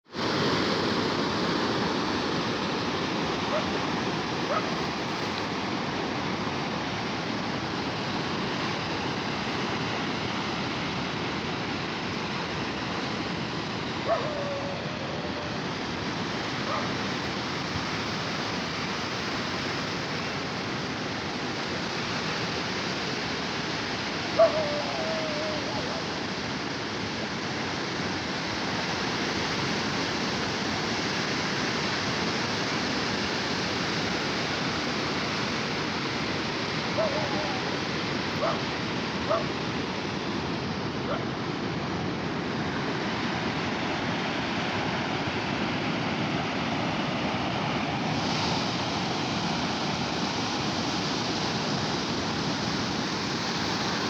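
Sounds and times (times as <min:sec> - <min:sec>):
sea waves on shore: 0:00.0 - 0:54.0.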